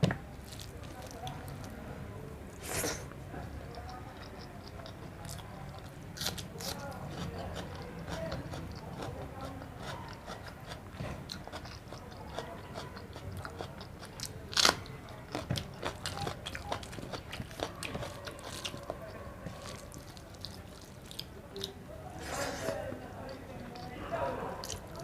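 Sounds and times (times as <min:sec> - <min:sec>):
person chewing food: 0:00.4 - 0:01.7, 0:02.8 - 0:24.0, 0:24.6 - 0:25.0.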